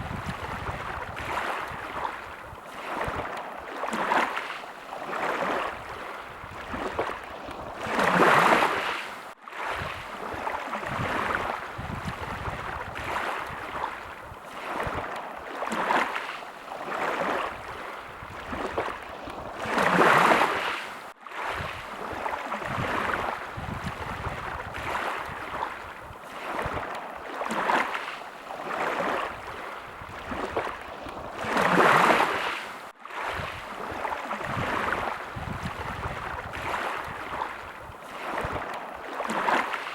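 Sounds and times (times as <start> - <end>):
small sea waves washing: 0.0 - 39.9.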